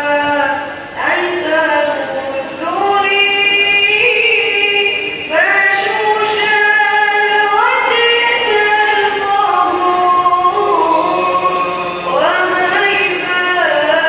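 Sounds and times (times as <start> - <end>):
high voice singing unaccompanied: 0.0 - 14.0.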